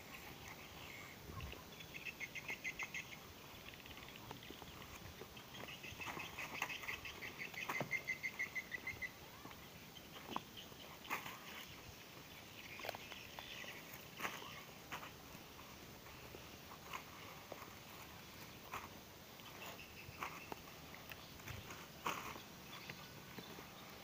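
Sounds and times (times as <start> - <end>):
footsteps: 3.8 - 24.0.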